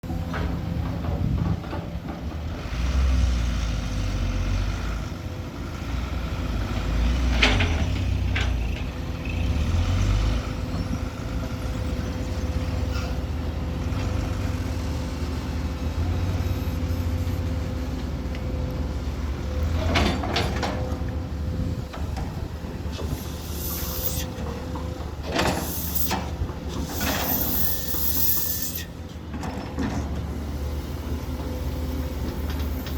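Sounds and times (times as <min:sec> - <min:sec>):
truck engine rumbling: 0:00.0 - 0:32.9.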